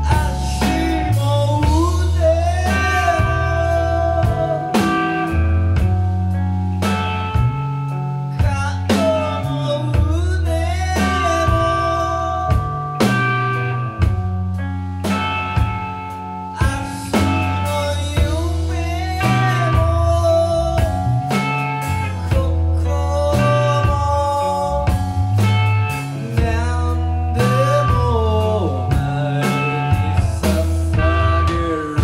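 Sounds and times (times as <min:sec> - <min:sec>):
drums steady beat: 0:00.0 - 0:32.0
pulsing bass line: 0:00.0 - 0:32.0.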